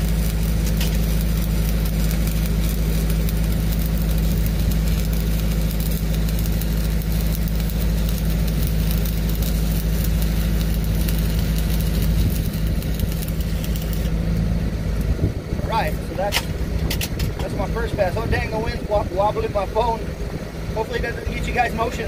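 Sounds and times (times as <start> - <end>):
welding arc crackling: 0.0 - 20.0, 20.7 - 22.0
welder engine droning: 0.0 - 22.0.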